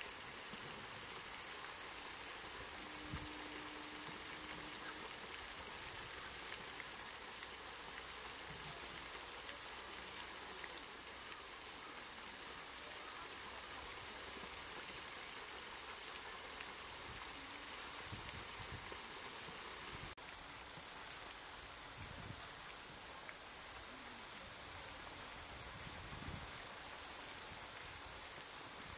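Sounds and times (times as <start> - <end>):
steady outdoor noise: 0.0 - 28.9.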